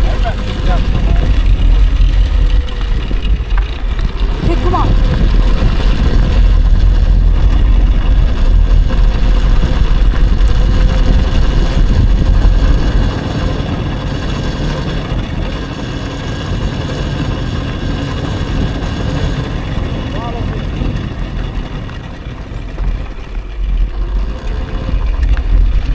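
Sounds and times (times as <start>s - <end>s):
electric motor whine: 0.0s - 25.9s
tyre rumble: 0.0s - 25.9s
wind buffeting microphone: 0.0s - 25.9s.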